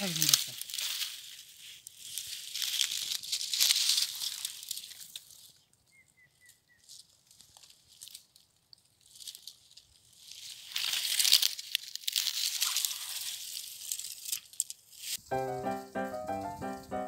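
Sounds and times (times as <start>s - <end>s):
dry leaves rustling and crackling: 0.0s - 5.8s, 6.7s - 15.2s.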